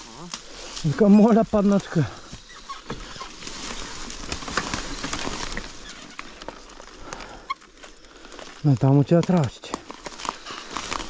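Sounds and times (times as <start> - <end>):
dry leaves and twigs rustling: 0.0 - 11.0.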